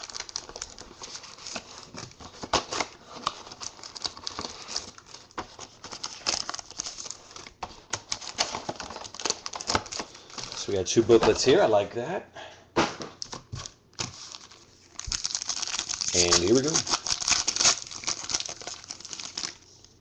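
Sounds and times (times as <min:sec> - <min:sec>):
wrappers crinkling and rustling: 0:00.0 - 0:10.8, 0:13.6 - 0:20.0.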